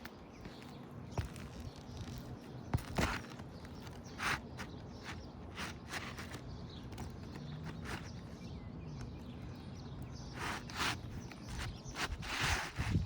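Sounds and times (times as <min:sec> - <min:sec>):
taps and scrapes on roof shingles: 0:00.0 - 0:09.4, 0:10.1 - 0:13.0.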